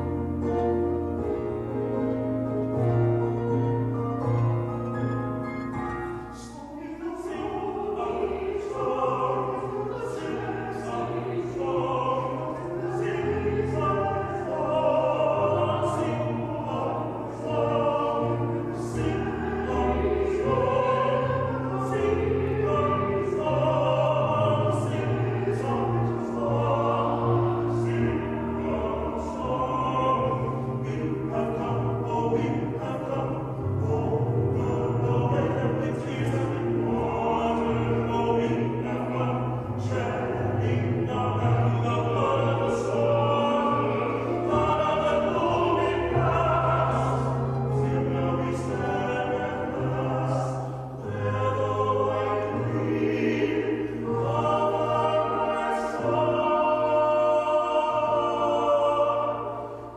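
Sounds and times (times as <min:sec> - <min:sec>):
operatic singing: 0:00.0 - 0:59.9.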